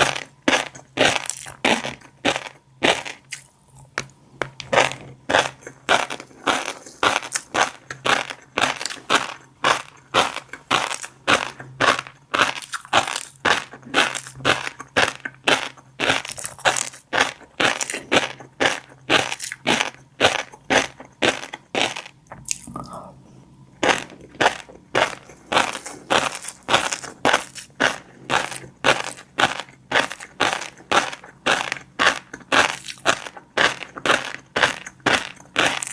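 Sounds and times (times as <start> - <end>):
chewing crunchy fish eggs: 0.0 - 23.1, 23.8 - 35.9
faint low hum: 0.0 - 35.9.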